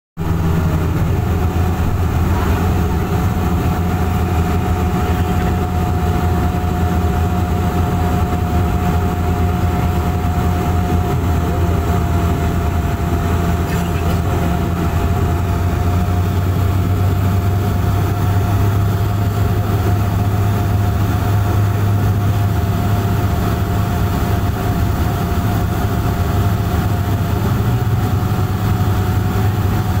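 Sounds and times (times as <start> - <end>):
propeller and engine drone: 0.2 - 30.0.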